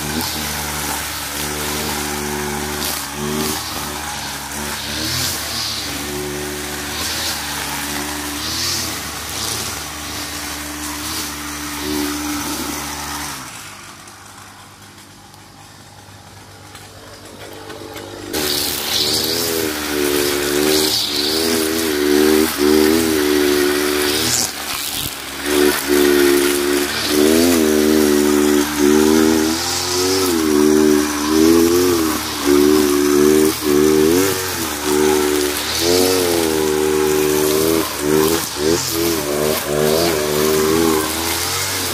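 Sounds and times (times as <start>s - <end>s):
blade cutting grass: 0.0s - 41.9s
brush cutter engine revving: 0.0s - 41.9s.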